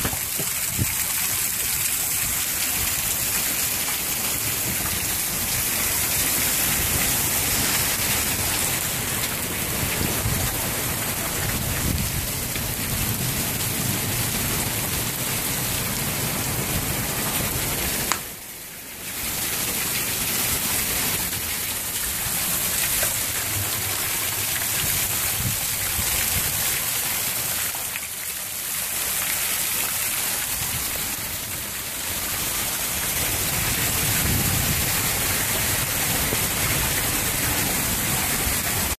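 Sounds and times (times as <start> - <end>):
heavy rain on garden: 0.0 - 39.0.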